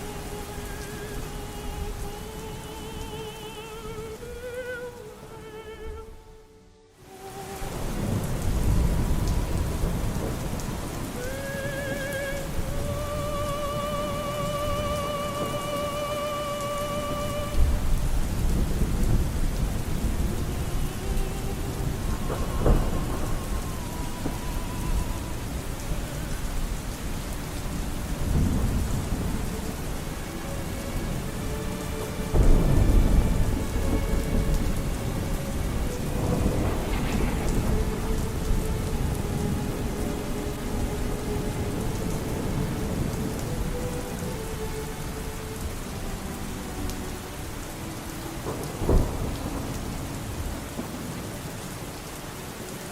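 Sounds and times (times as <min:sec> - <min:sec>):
steady rain: 0:00.0 - 0:52.9
thunder rolling: 0:07.5 - 0:51.9.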